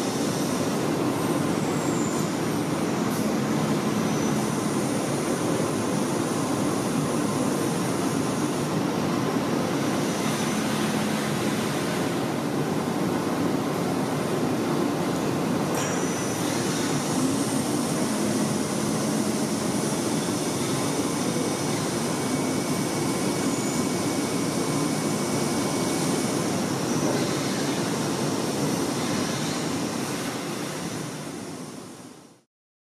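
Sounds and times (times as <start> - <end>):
steady machine rushing noise: 0.0 - 32.1.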